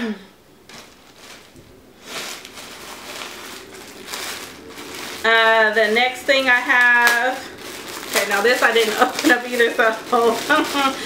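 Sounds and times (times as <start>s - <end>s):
plastic bag crinkling: 0.6s - 11.0s.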